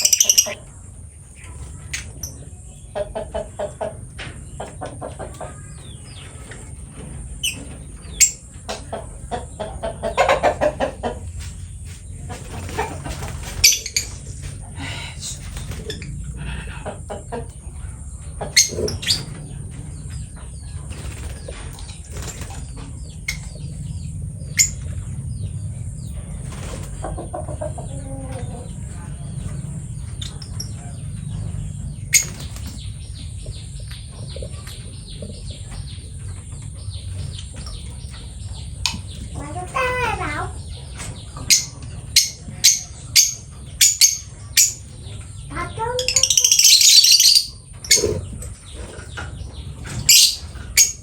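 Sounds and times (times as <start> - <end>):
steady low hum: 0.0 - 46.5
bird chirping: 0.0 - 51.0.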